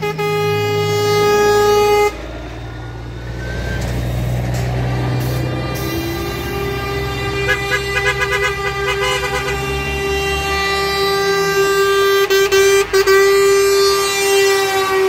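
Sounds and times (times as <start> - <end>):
diesel truck rumble: 0.0 - 15.0
truck air horn blast: 0.0 - 15.0.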